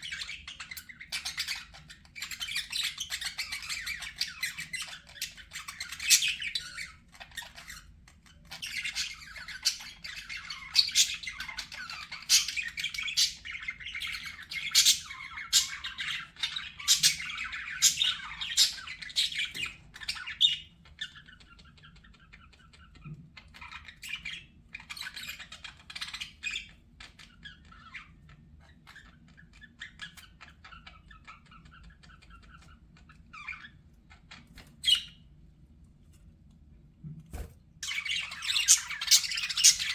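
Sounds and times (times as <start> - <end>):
budgerigars chattering and chirping: 0.0 - 35.3, 37.8 - 39.9.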